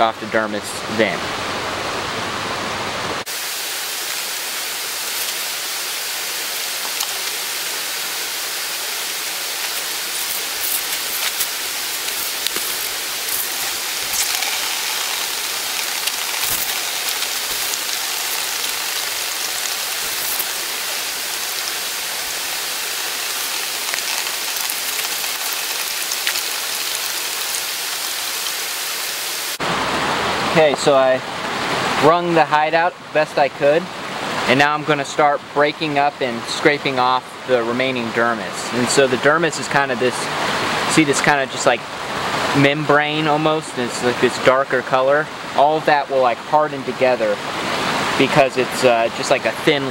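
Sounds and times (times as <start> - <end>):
running water: 0.0 - 49.9.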